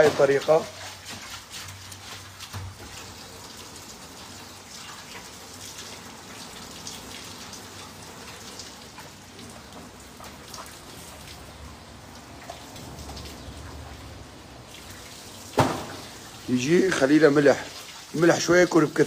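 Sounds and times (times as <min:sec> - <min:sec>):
small water splashes: 0:00.0 - 0:19.0
water hissing: 0:02.7 - 0:18.6.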